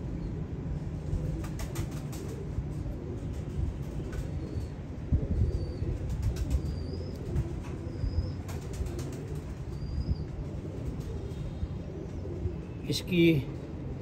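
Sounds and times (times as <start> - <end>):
pigeons cooing: 1.0 - 14.0.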